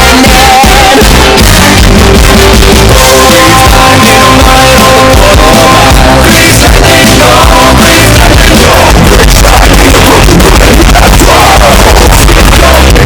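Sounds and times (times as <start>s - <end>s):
loud rock and roll band: 0.0s - 13.0s.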